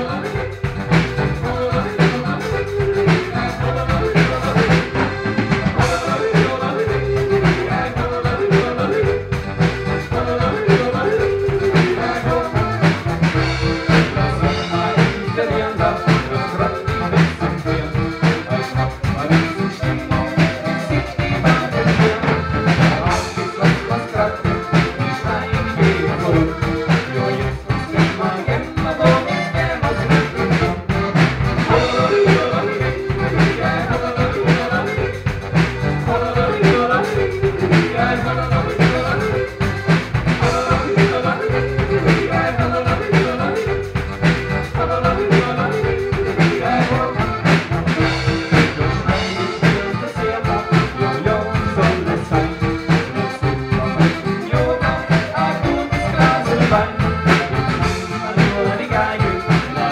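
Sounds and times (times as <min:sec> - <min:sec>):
lively brass band music: 0:00.0 - 0:59.9.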